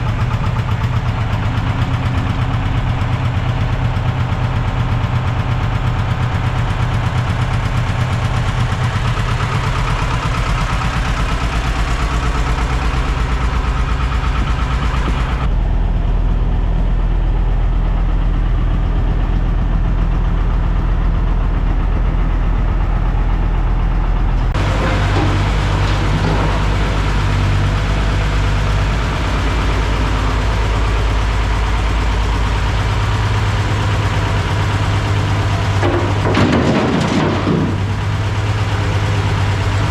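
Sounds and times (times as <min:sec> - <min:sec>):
machine engine running: 0:00.0 - 0:15.5, 0:20.5 - 0:39.9.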